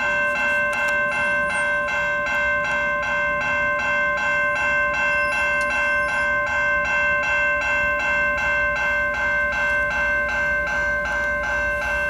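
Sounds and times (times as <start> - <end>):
railroad crossing bells ringing: 0.0 - 12.0.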